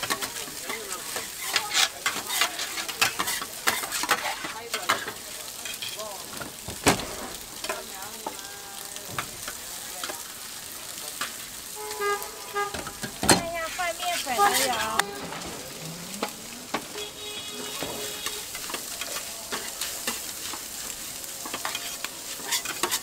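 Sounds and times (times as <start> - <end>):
metal spatulas scraping on griddle: 0.0 - 8.0, 11.1 - 23.0
frying sizzle: 0.0 - 23.0.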